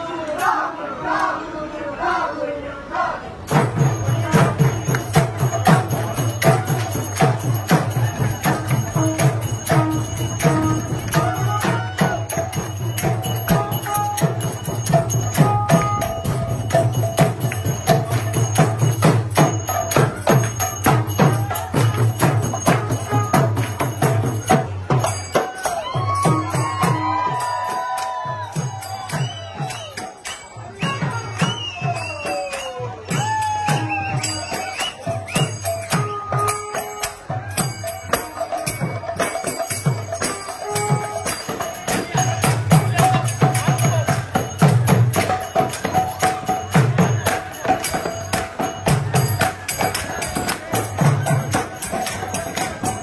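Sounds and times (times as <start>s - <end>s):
crowd voices: 0.0s - 53.0s
jangling percussion: 3.4s - 53.0s
hand drum beats: 3.5s - 53.0s.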